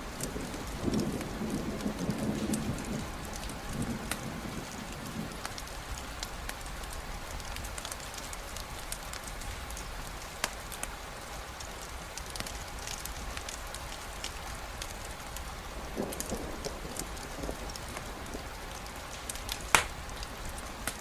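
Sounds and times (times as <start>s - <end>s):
campfire crackling and popping: 0.0s - 21.0s
steady rainfall: 0.0s - 21.0s.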